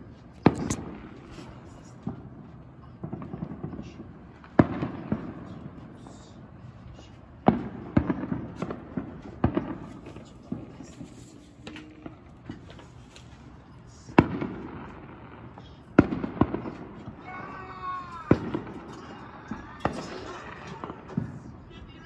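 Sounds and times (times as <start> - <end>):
fireworks bangs echoing: 0.3 - 21.7.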